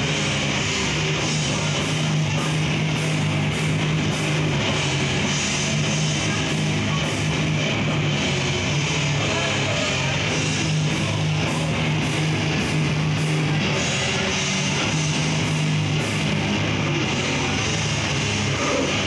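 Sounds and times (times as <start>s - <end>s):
distorted electric guitars and bass: 0.0s - 19.0s
drums and cymbals: 0.0s - 19.0s.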